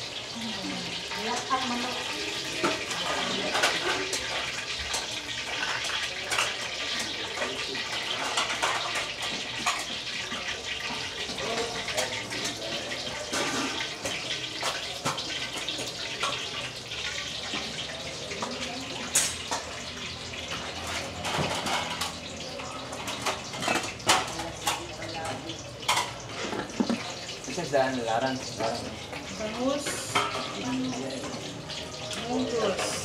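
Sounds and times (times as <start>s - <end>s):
faint voices: 0.1s - 33.0s.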